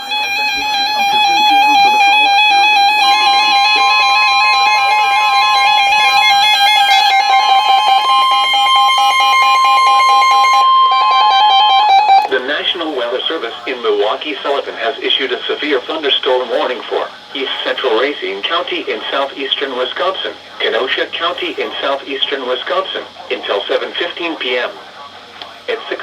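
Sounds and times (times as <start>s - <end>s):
warbling electronic alarm: 0.0s - 24.3s
steady warning tone: 0.0s - 26.0s.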